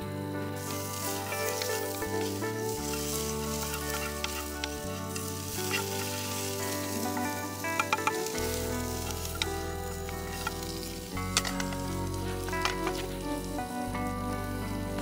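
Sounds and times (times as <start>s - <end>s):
soft background music: 0.0s - 15.0s
food sizzling in a pan: 0.4s - 15.0s
wooden spatula stirring: 0.6s - 13.2s.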